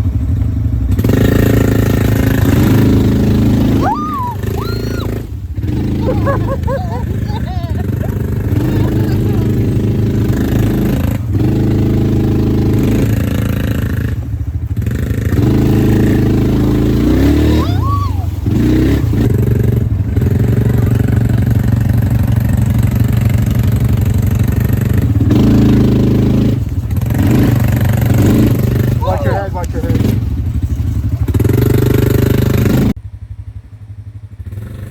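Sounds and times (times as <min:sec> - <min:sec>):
atv engine under throttle: 0:00.0 - 0:34.9.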